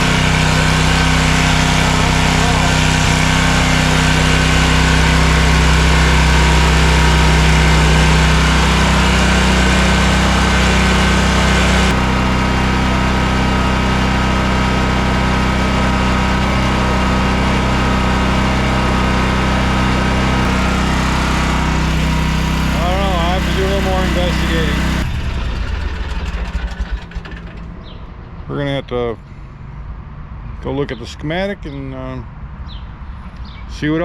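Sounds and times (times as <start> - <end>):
mower engine idling: 0.0 - 29.6.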